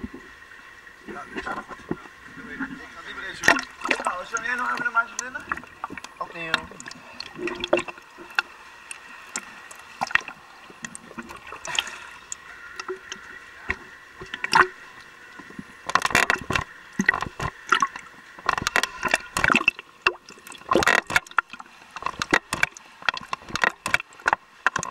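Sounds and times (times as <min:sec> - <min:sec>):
pool water splashing: 0:00.0 - 0:24.9.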